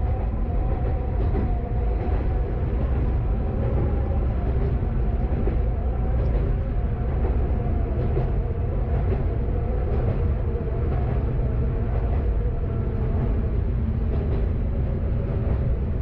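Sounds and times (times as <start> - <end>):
diesel railcar rumble: 0.0 - 16.0.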